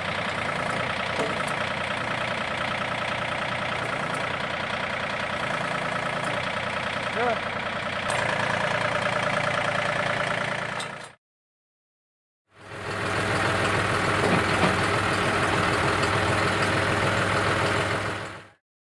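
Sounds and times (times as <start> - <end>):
tractor diesel engine idling: 0.0 - 11.2, 12.6 - 18.6.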